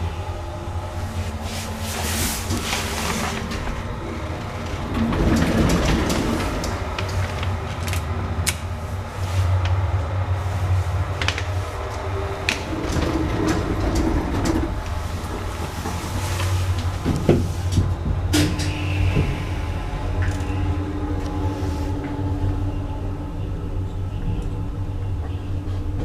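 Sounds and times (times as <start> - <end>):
lift humming: 0.0 - 26.0.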